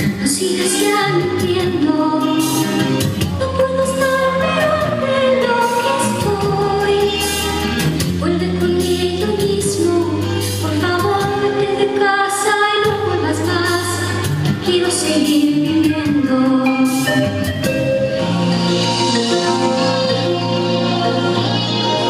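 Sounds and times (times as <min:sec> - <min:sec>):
pop music with singing: 0:00.0 - 0:22.0.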